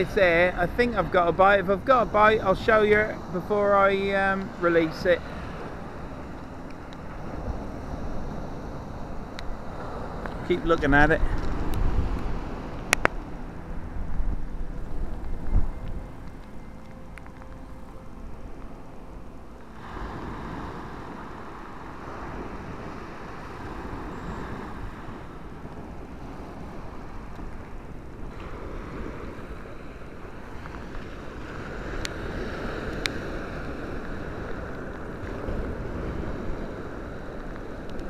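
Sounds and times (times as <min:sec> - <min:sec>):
surf breaking on sand beach: 0:00.0 - 0:16.5, 0:19.6 - 0:38.0
wind buffeting microphone: 0:00.0 - 0:38.0.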